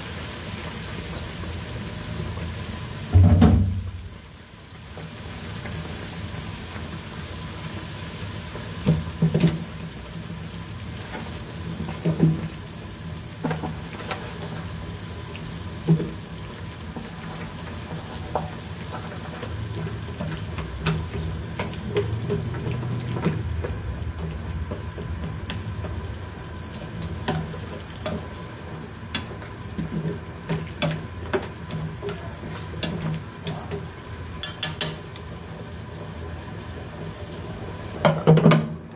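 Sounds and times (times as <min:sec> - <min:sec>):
broth bubbling in a pan: 0:00.0 - 0:38.9.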